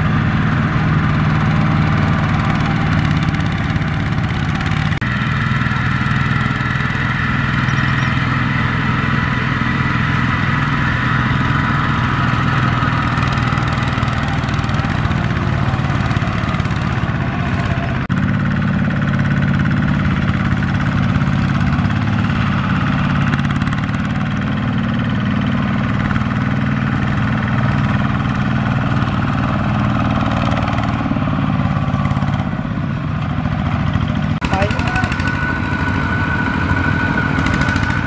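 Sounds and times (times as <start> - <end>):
diesel tractor engine running: 0.0 - 38.0.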